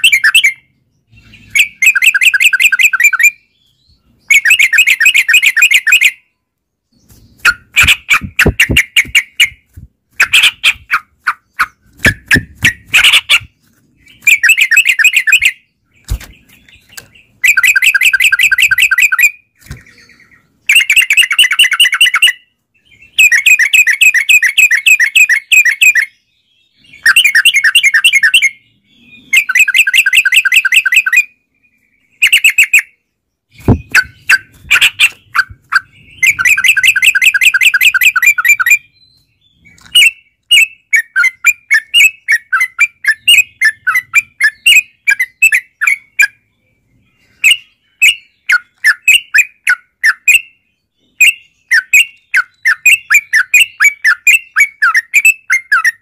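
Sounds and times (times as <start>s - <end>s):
birds singing bubbling notes: 0.0s - 56.0s.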